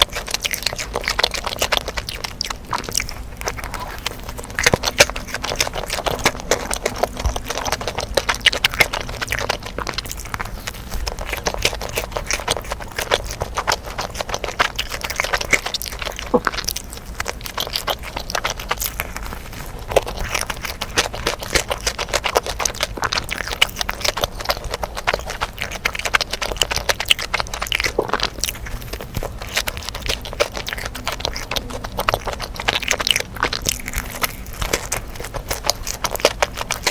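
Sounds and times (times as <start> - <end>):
crunchy chewing: 0.0 - 36.9.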